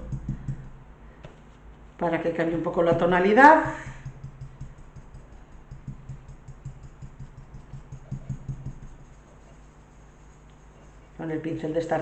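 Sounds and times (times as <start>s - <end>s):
brush tapping paint: 0.0s - 1.8s, 2.7s - 11.2s.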